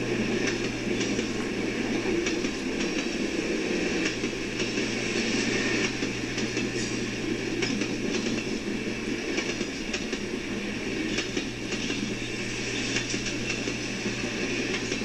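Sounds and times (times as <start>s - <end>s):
train wheels rumbling on rail: 0.0s - 15.0s
sharp clicks from train trucks: 0.3s - 3.2s, 3.8s - 15.0s.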